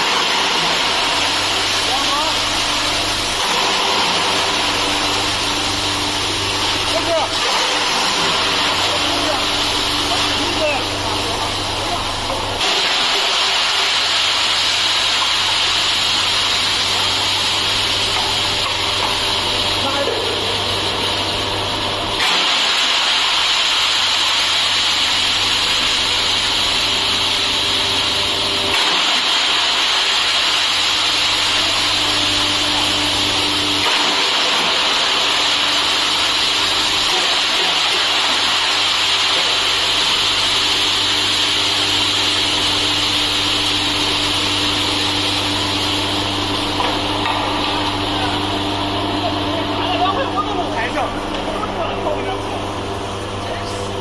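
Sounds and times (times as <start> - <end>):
wood chipper running: 0.0 - 54.0.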